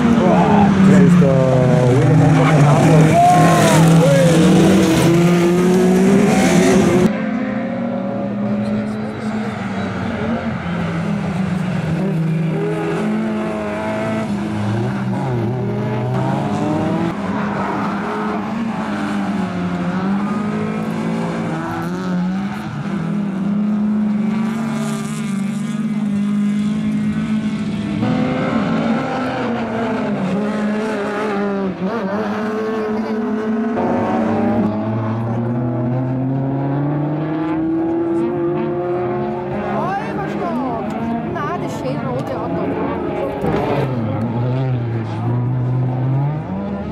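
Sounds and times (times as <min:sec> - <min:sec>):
rally cars engines revving: 0:00.0 - 0:46.9.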